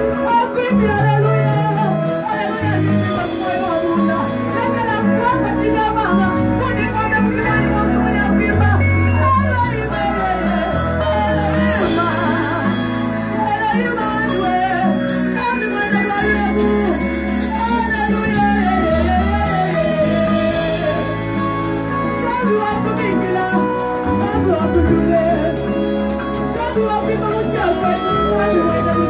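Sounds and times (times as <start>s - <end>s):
electric bass notes: 0.0s - 29.0s
gospel band playing: 0.0s - 29.0s
person singing lead: 0.0s - 29.0s.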